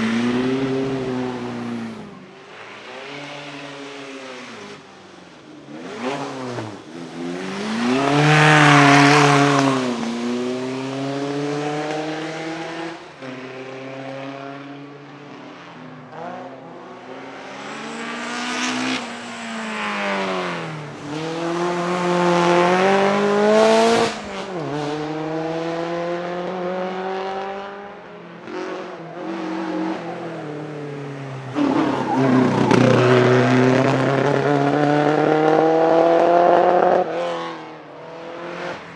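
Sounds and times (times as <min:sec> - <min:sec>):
racing car engines accelerating past: 0:00.0 - 0:04.9, 0:05.7 - 0:38.9.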